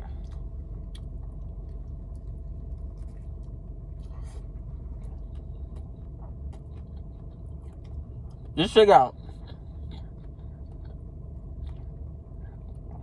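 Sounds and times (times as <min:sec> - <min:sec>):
chewing mouth clicks and smacks: 0:00.0 - 0:04.1, 0:04.8 - 0:08.6, 0:09.2 - 0:13.0
car cabin rumble: 0:00.0 - 0:13.0.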